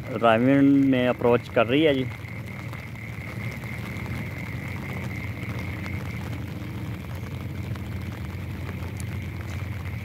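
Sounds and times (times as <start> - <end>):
frogs croaking: 0.0 - 10.0
low even rumble: 0.0 - 10.0.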